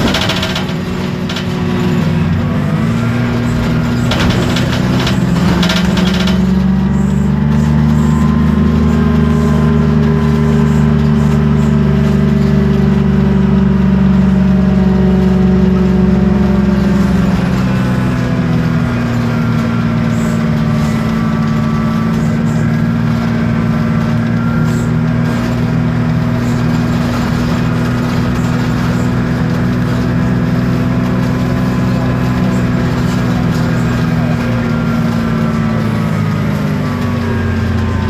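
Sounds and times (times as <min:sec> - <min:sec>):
bus diesel engine running: 0:00.0 - 0:38.0.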